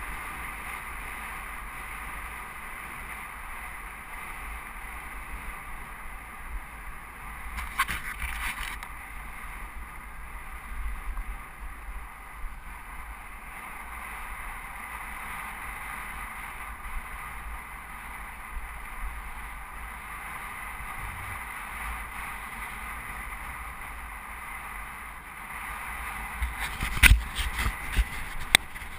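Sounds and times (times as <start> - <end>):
wind on microphone: 0.0 - 28.9.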